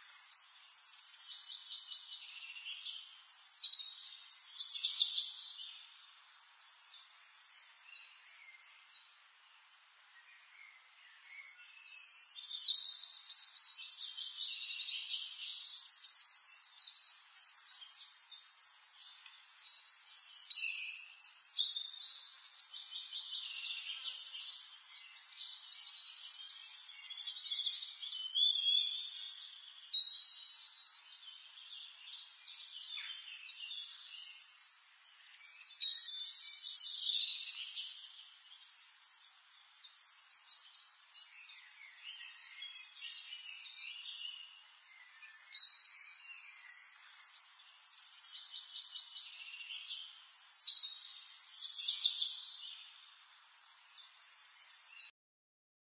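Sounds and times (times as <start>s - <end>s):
faint background hiss: 0.0s - 55.1s
songbirds singing with trills: 0.0s - 55.1s.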